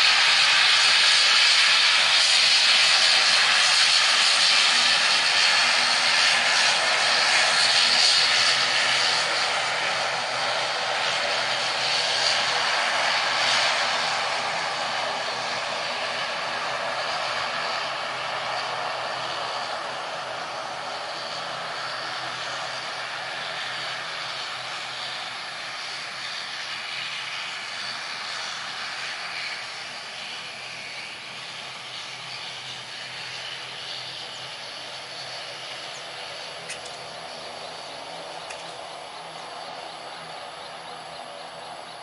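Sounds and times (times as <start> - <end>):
turboprop aircraft engines droning: 0.0 - 42.0.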